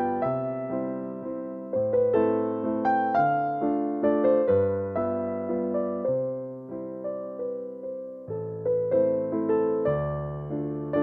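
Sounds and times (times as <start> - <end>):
electric piano melody: 0.0 - 11.0.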